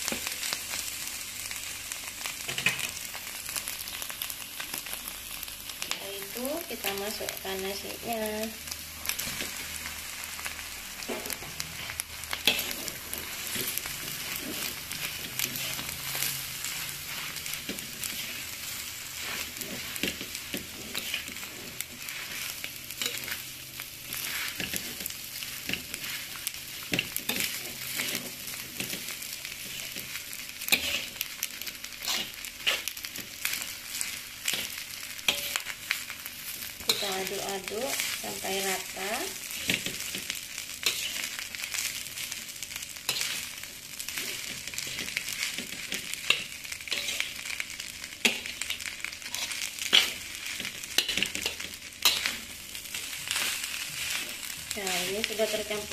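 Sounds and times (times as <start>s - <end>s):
rice sizzling in oil: 0.0s - 55.9s.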